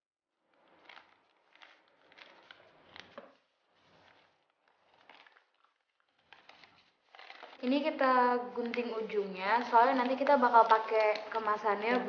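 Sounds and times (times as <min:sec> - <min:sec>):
powder pouring: 0:00.4 - 0:12.0
plastic sachet crinkling: 0:00.6 - 0:12.0.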